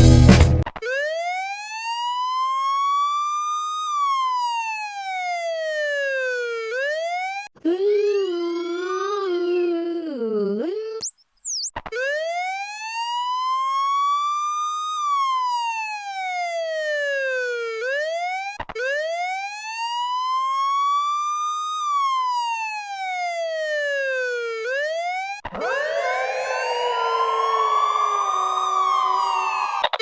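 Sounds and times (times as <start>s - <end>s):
police siren wailing: 0.8s - 7.5s, 12.4s - 30.0s.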